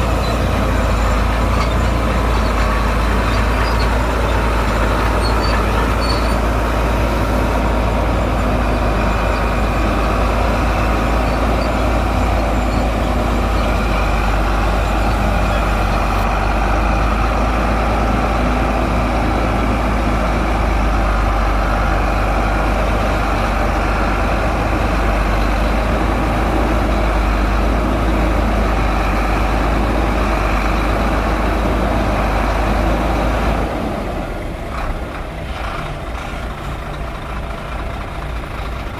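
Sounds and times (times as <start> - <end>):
bulldozer diesel engine rumbling: 0.0 - 38.9.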